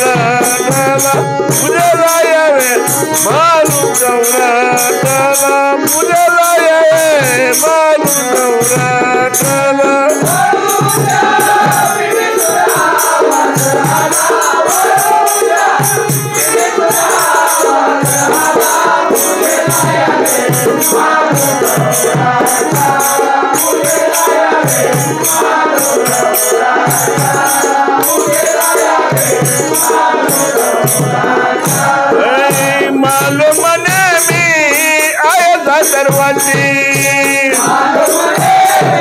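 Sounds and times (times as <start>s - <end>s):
harmonium playing: 0.0s - 39.0s
rattling percussion: 0.0s - 39.0s
drum beat: 7.0s - 39.0s.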